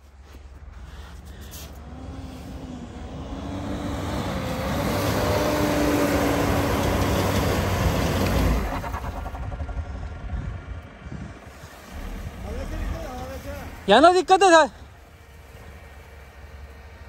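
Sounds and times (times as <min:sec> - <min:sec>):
pickup engine pulling under load: 0:01.7 - 0:17.0.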